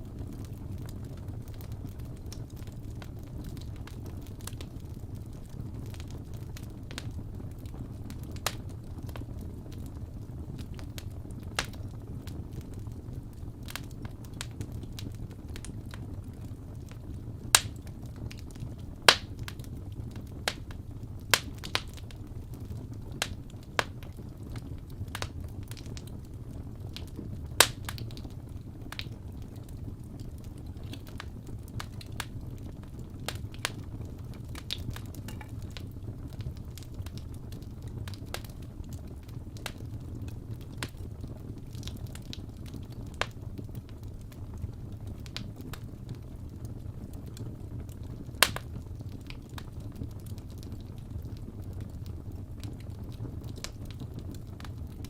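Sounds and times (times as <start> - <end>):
low rumble of flame: 0.0 - 55.0
wood fire crackling: 0.0 - 55.0
loud snaps of burning logs: 0.1 - 55.0.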